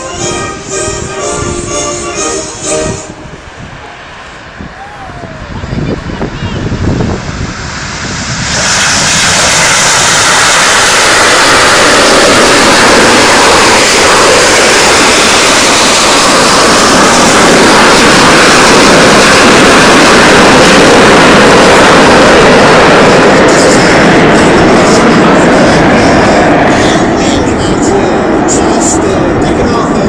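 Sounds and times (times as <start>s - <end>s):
jet aircraft taking off: 0.0s - 30.0s.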